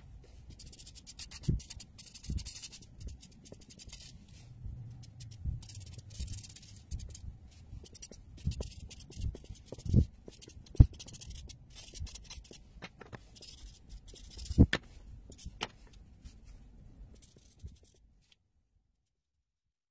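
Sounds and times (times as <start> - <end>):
marker scratching on paper: 0.2 - 18.0.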